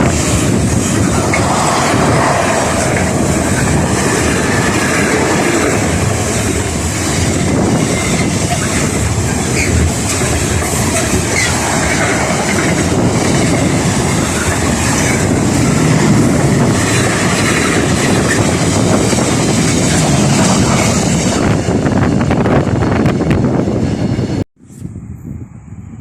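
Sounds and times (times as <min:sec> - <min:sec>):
train passing: 0:00.0 - 0:24.4.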